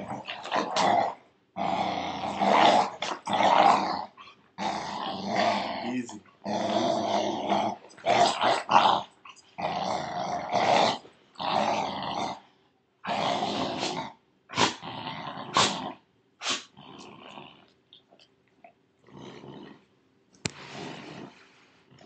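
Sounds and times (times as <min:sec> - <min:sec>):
dogs play-growling: 0:00.0 - 0:12.4, 0:13.0 - 0:17.8, 0:19.0 - 0:19.8, 0:20.6 - 0:22.0.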